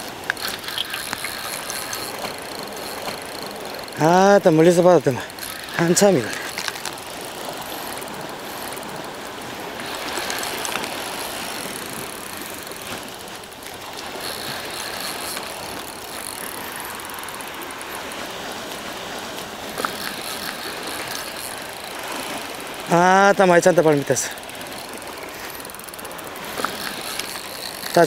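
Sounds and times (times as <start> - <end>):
fishing reel ticking whir: 0.0 - 28.0
wind: 0.0 - 28.0.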